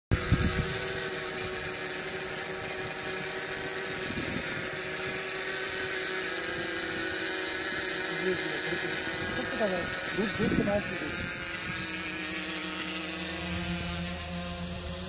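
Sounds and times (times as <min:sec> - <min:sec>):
quadcopter propellers humming: 0:00.1 - 0:15.0.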